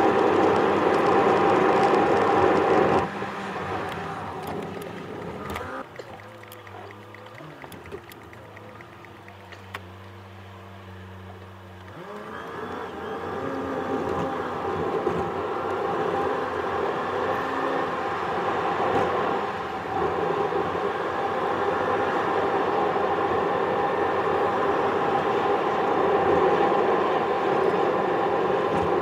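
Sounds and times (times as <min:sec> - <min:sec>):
car engine: 0:00.0 - 0:29.0
tyre and road noise: 0:00.0 - 0:29.0.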